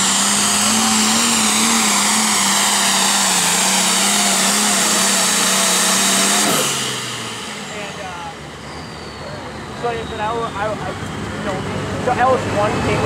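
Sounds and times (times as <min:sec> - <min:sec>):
tractor diesel engine at high revs: 0:00.0 - 0:13.0.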